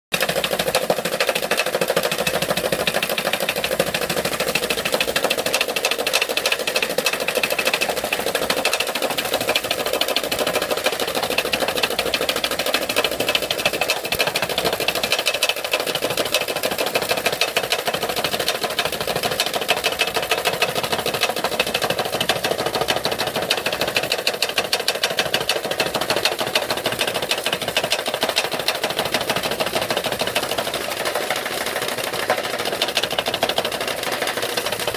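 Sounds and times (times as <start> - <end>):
gutter cleaning robot clattering: 0.1 - 34.9.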